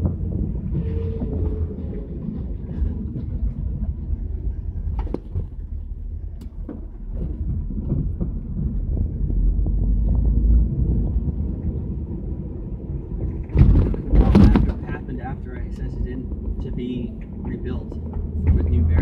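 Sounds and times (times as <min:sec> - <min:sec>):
car exhaust rumble: 0:00.0 - 0:19.0
road noise: 0:00.0 - 0:19.0.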